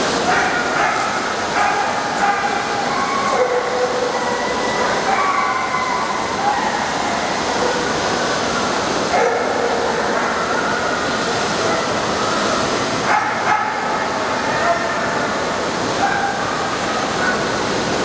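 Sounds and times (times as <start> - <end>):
crowded hall din: 0.0 - 18.0.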